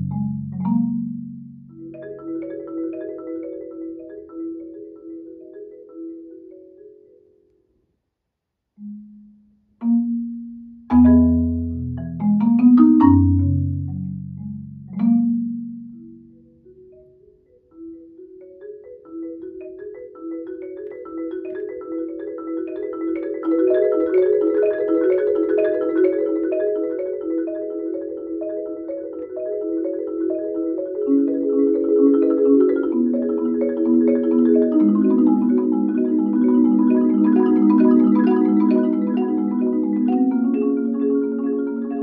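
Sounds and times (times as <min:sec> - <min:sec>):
marimba duet: 0:00.0 - 0:07.7, 0:08.8 - 0:42.0.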